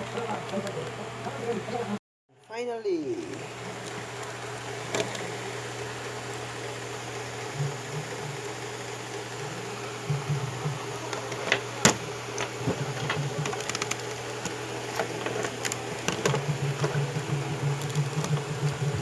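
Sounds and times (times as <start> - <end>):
steady low appliance hum: 0.0 - 19.0.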